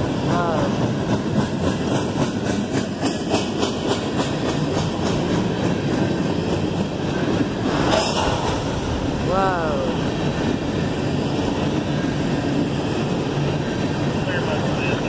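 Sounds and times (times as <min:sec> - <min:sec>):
freight train wheels rumbling: 0:00.0 - 0:15.0
wheels clicking over rail joints: 0:00.0 - 0:15.0.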